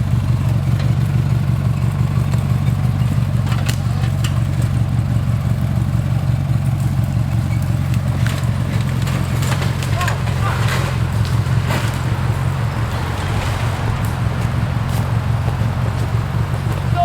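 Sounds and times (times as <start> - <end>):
lawn tractor engine running: 0.0 - 17.0.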